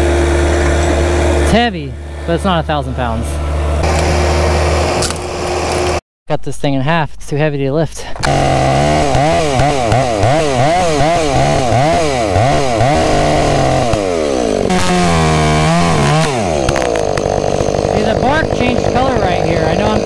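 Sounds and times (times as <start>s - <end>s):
chainsaw cutting log: 0.0s - 2.4s, 3.4s - 6.0s, 8.2s - 20.0s.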